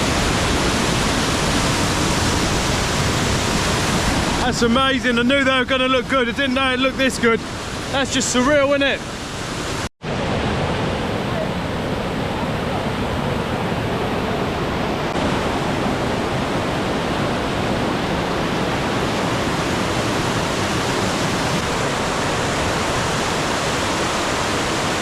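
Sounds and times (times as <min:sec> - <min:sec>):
waterfall roaring over rock: 0:00.0 - 0:25.0.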